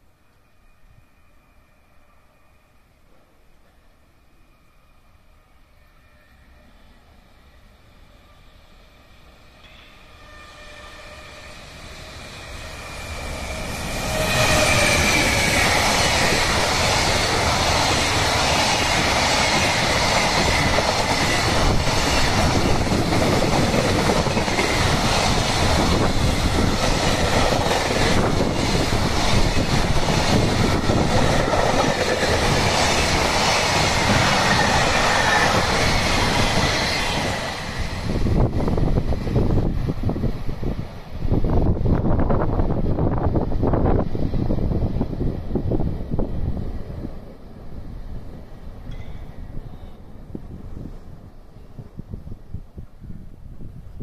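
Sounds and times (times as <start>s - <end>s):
electric locomotive whine: 0.0s - 54.0s
train cars rumbling past: 6.1s - 54.0s.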